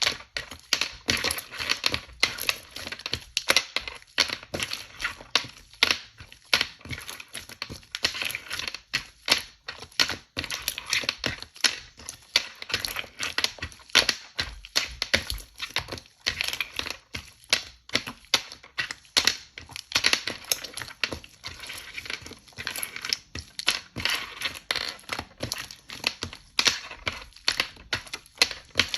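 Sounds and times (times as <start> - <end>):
slime clicking and crackling: 0.0 - 28.9.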